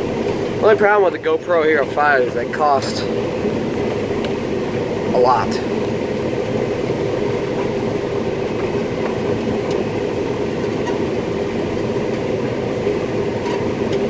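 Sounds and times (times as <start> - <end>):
combine harvester droning: 0.0 - 14.0.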